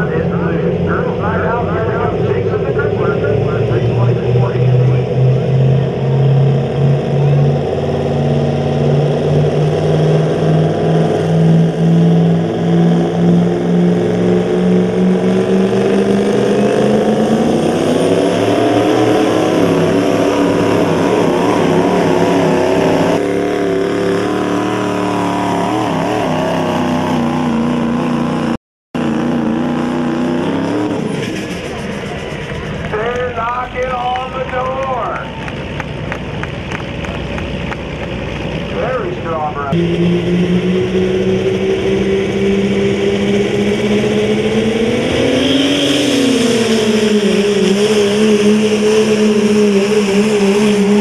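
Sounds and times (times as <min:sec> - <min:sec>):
diesel truck engine at full throttle: 0:00.0 - 0:51.0.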